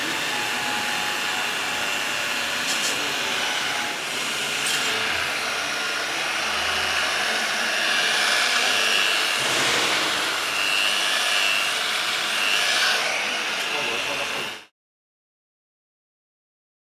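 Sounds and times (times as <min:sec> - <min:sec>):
grinder wheel hissing on metal: 0:00.0 - 0:14.7.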